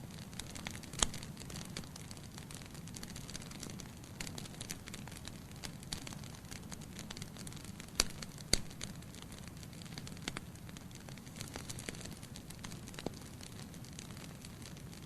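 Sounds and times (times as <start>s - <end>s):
fire low rumble: 0.0s - 15.0s
sharp fire pops: 0.2s - 15.0s
wood logs crackling: 0.4s - 15.0s.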